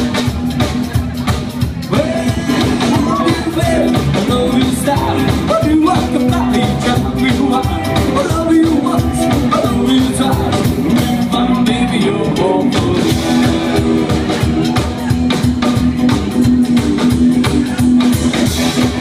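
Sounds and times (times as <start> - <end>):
drum kit: 0.0 - 19.0
electric guitar: 0.0 - 19.0
upright double bass: 0.0 - 19.0.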